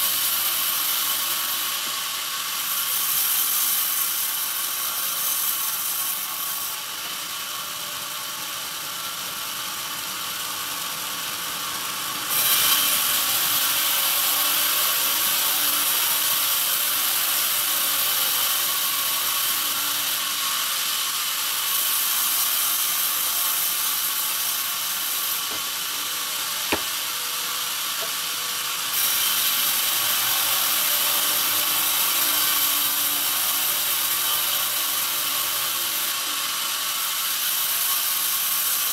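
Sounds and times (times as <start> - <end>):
band saw cutting log: 0.0 - 7.3, 12.2 - 36.4.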